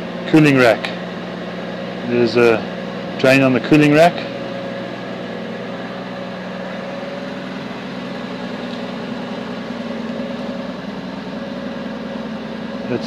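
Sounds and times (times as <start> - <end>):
car engine running near idle: 0.0 - 13.0.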